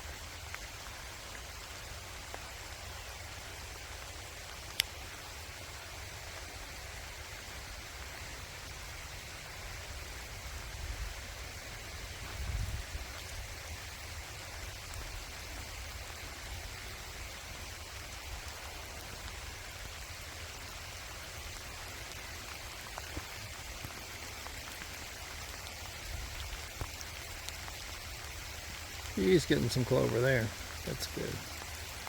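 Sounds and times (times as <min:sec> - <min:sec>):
light rain falling: 0:00.0 - 0:32.0.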